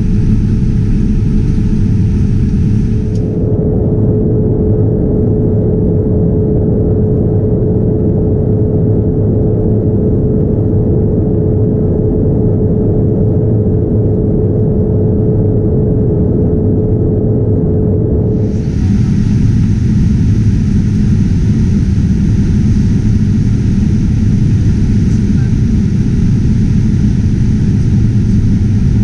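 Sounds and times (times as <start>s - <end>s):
airliner cabin rumble: 0.0s - 8.5s, 9.2s - 29.0s
constant steady hum: 0.0s - 29.0s.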